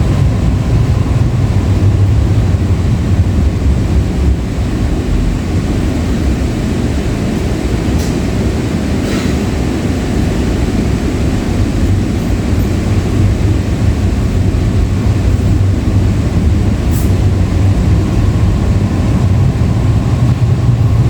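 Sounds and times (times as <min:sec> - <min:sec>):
rumble of train wheels: 0:00.0 - 0:21.0.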